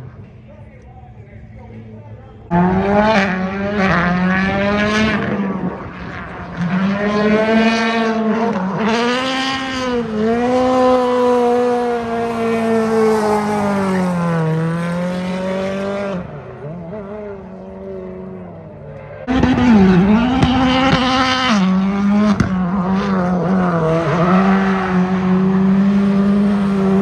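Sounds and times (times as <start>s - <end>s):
car engine at high revs: 2.5s - 27.0s.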